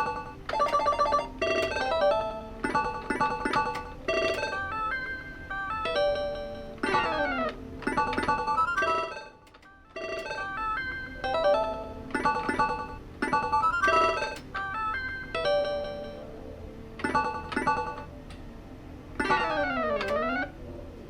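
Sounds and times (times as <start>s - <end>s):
electronic slot machine music: 0.0s - 18.3s, 19.2s - 20.6s.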